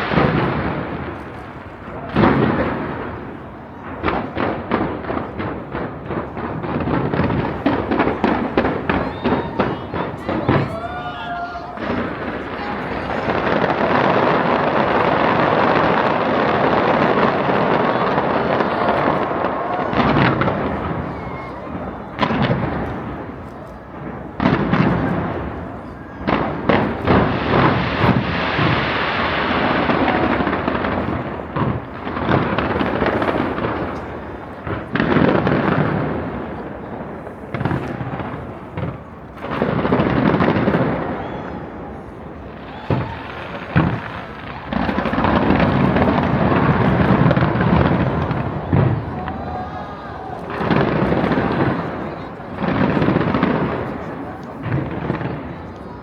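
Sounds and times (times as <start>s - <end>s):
fireworks booming and crackling: 0.0s - 56.0s
sharp firework bangs: 0.0s - 56.0s.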